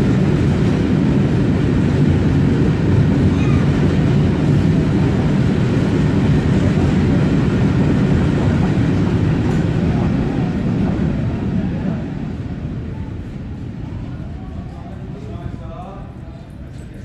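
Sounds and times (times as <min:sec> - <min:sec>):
train wagons rumbling on track: 0:00.0 - 0:17.0.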